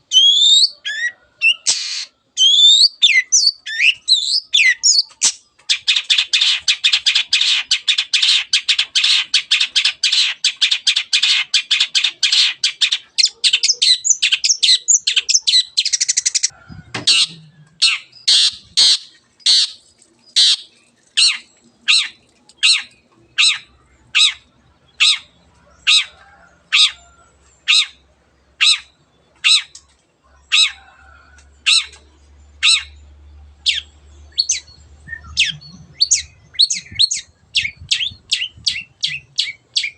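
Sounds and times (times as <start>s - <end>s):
bird chattering and calling: 0.0s - 39.9s.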